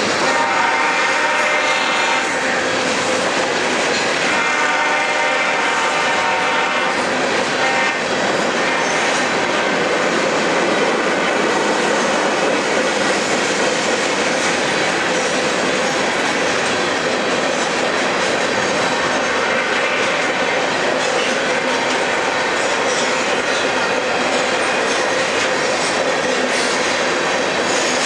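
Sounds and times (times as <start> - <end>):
diesel locomotives pulling: 0.0 - 28.0
steel wheels rolling on rails: 0.0 - 28.0.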